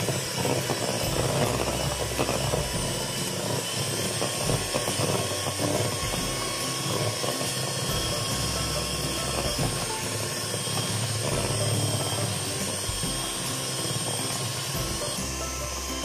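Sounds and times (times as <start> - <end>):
electric hand mixer whisking batter: 0.0 - 16.0.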